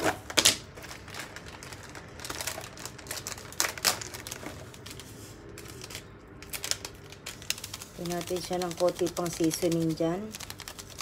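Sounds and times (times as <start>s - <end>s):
rustling of sachets: 0.7s - 11.0s.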